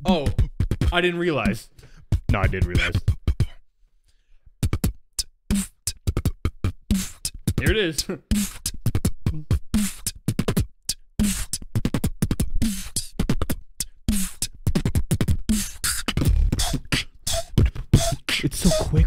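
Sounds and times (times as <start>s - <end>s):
beatboxing into a microphone: 0.0s - 3.6s, 4.6s - 19.0s.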